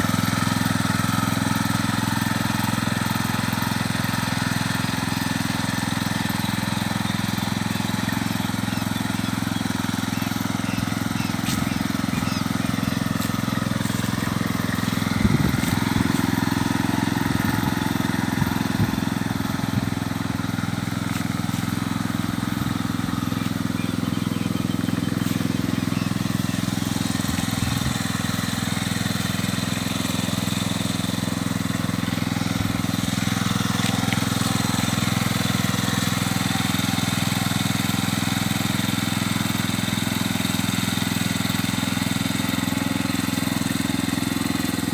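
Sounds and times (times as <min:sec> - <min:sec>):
small tractor engine running: 0:00.0 - 0:44.9.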